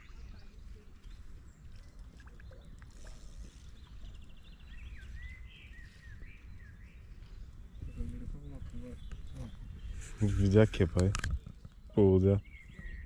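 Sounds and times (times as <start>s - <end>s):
songbirds chirping and whistling: 0.0s - 13.0s
wind rumbling on microphone: 0.0s - 13.0s.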